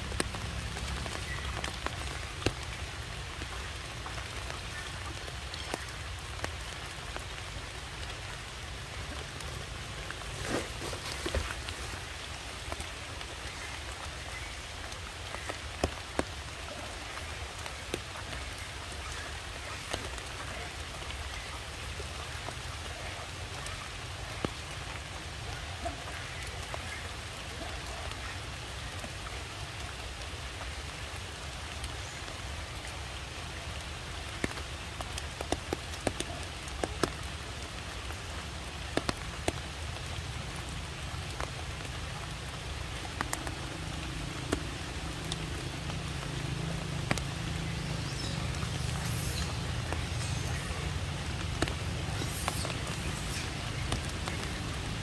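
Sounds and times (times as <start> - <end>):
rain hissing: 0.0 - 55.0
raindrop ticks: 0.0 - 55.0.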